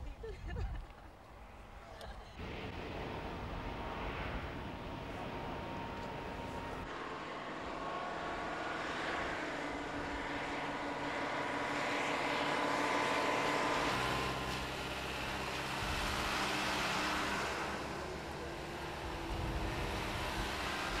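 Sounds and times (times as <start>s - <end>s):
truck engines driving past: 1.2s - 21.0s.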